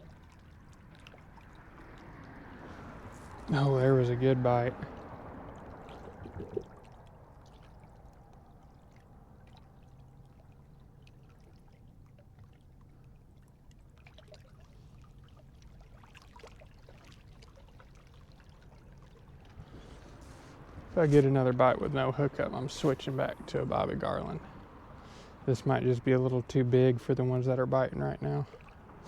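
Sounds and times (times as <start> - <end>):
water lapping at bank: 0.0 - 29.0.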